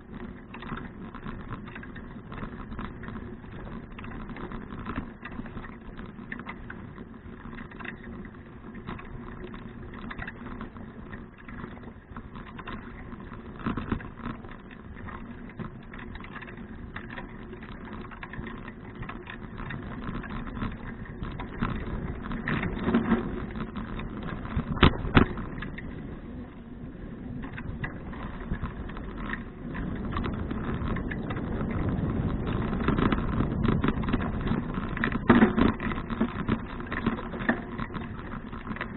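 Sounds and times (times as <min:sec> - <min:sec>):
bicycle tyre and wind noise: 0:00.0 - 0:38.9
rattling clicks: 0:00.5 - 0:26.1, 0:27.4 - 0:38.9.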